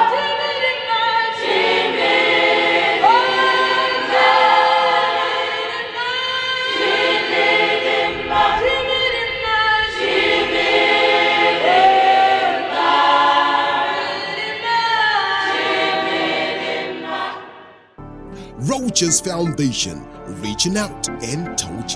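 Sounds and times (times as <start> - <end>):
choir singing long notes: 0.0 - 18.0.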